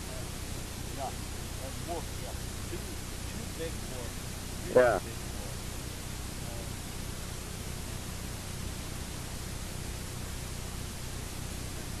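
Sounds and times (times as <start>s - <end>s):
low hum: 0.0s - 12.0s
tape hiss: 0.0s - 12.0s.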